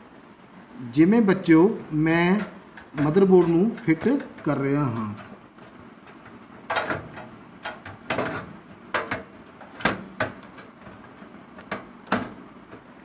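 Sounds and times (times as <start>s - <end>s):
board knocking against metal case: 2.4s - 12.9s.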